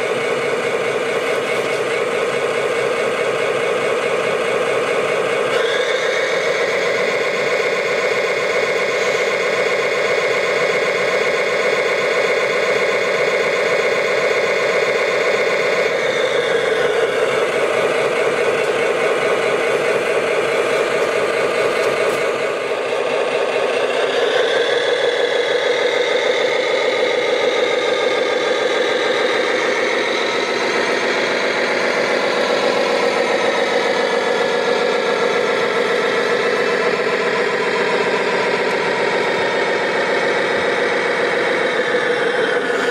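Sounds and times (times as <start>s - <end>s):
model engines running: 0.0s - 42.9s.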